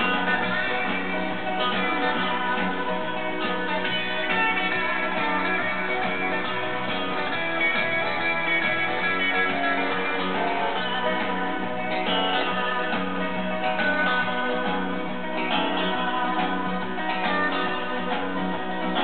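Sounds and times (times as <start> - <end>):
guitar music from speakers: 0.0 - 19.0.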